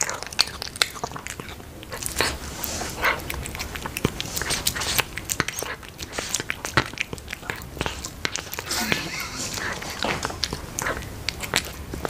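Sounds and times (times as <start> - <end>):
cat chewing and lapping: 0.0 - 12.0.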